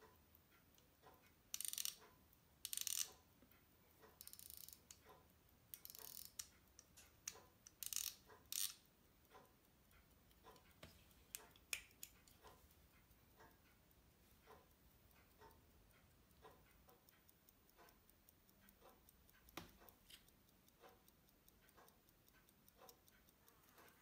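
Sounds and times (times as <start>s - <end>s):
pocket watch ticking: 0.0s - 24.0s.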